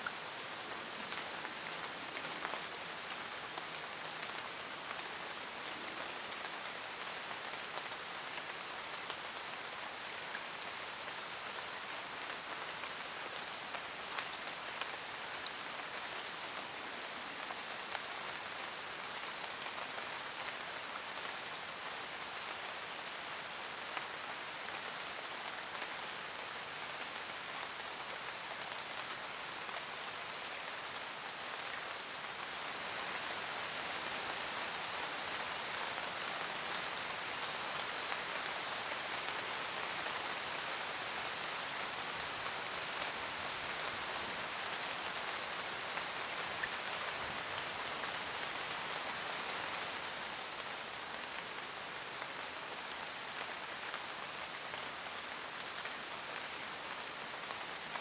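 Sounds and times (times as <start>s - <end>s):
rain falling in forest: 0.0s - 58.0s.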